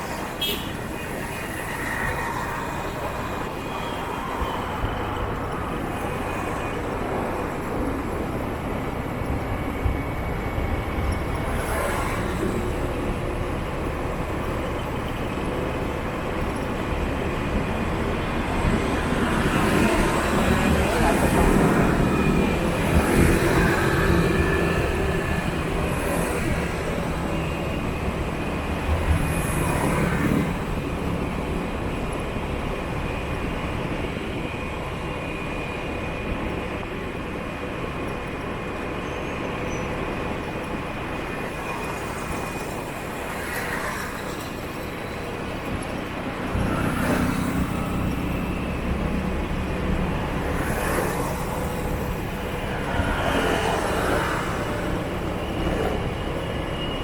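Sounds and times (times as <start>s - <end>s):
motorbike traffic hum: 0.0s - 57.0s.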